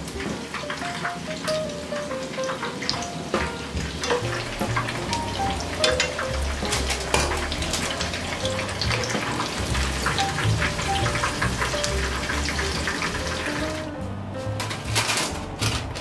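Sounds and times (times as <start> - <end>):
food deep-frying in oil: 0.0 - 14.0
light background music: 0.0 - 16.0.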